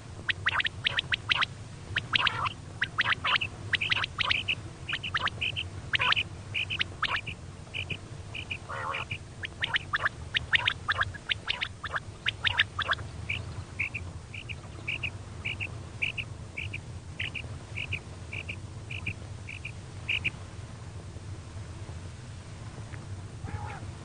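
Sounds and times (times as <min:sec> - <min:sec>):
quail calling: 0:00.0 - 0:20.4, 0:23.4 - 0:23.9
low steady hum: 0:00.0 - 0:24.0.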